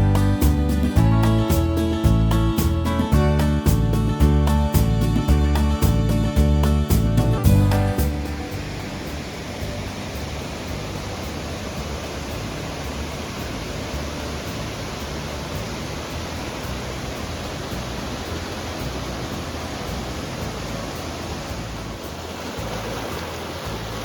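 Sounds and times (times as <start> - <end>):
rushing water roar: 0.0 - 24.0.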